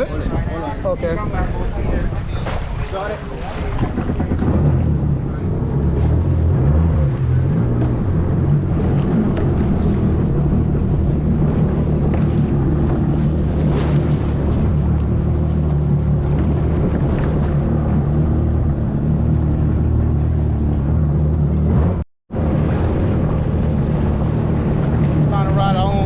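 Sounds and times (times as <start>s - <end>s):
jet ski engine idling: 3.0s - 26.0s.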